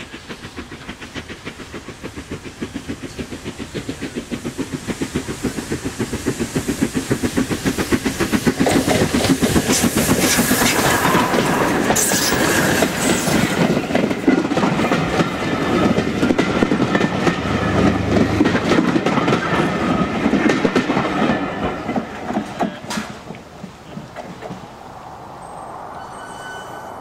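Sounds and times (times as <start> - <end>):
train wheels clicking over rail joints: 0.0 - 25.0
steam engine hiss: 0.0 - 27.0.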